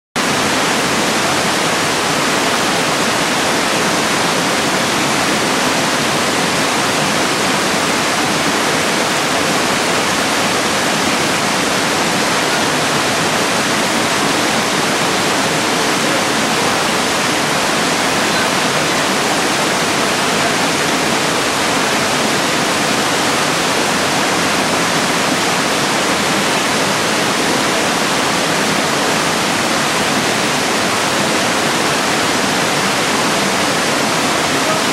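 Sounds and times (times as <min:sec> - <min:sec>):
water rushing over rocks: 0:00.2 - 0:34.9.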